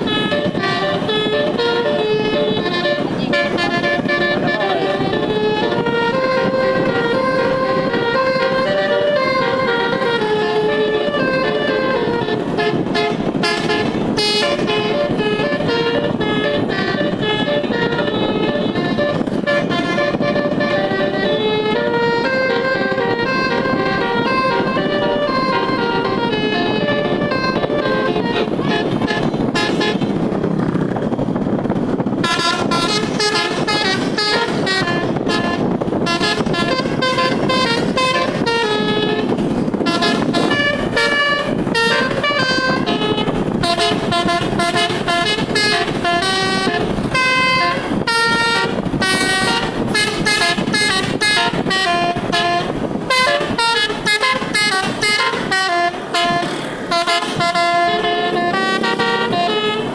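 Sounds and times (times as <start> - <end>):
multi-tone musical air horn: 0.0 - 59.9.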